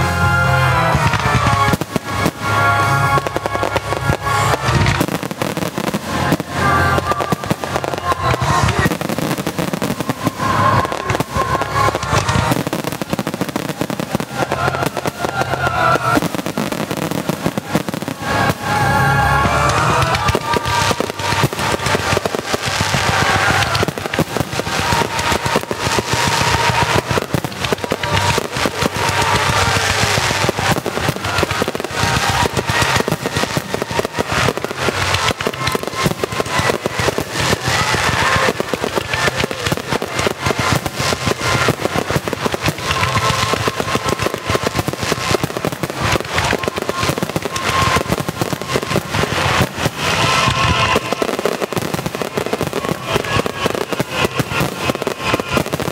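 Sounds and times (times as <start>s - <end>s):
fireworks bursting and crackling: 0.0s - 55.9s
music playing: 0.0s - 55.9s.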